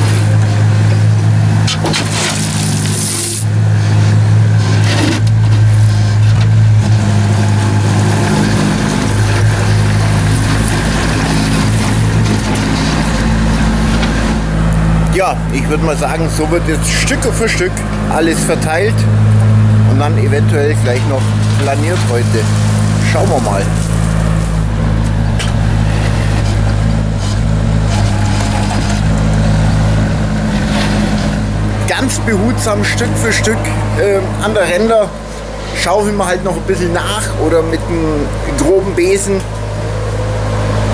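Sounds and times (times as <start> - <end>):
diesel engine droning: 0.0 - 40.9
excavator bucket in gravel: 0.0 - 40.9.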